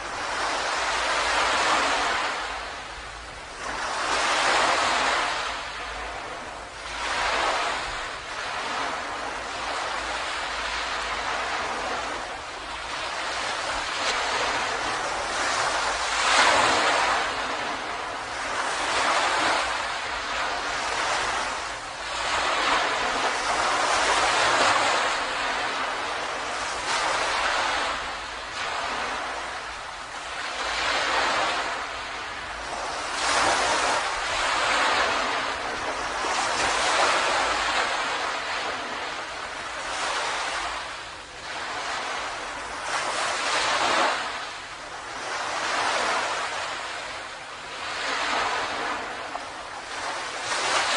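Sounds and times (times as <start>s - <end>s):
ocean surf breaking on beach: 0.0s - 50.9s.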